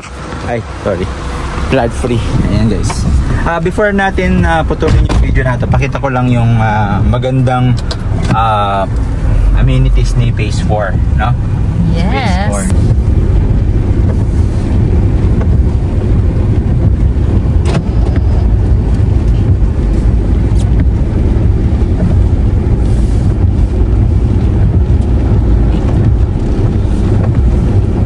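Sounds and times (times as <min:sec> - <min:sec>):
car driving on wet road: 0:00.0 - 0:28.0.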